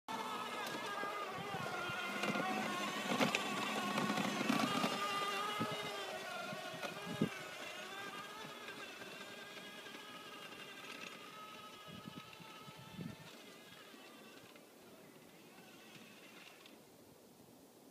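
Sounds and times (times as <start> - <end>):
ride-on toy motor whining: 0.1 - 16.8.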